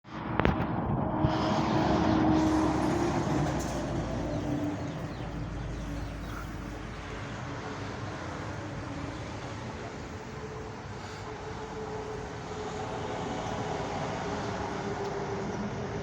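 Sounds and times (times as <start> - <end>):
engine humming: 0.1 - 16.0.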